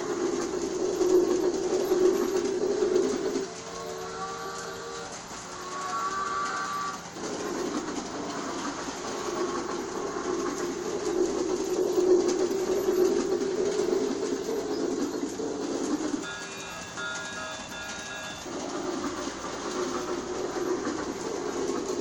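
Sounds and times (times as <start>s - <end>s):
toy train rumbling clatter: 0.0s - 22.0s.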